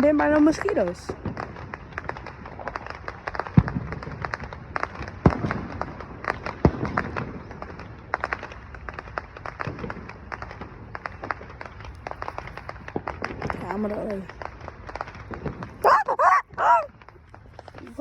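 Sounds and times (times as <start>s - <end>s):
fireworks popping and crackling: 0.0s - 18.0s
heavy firework bangs: 0.4s - 18.0s.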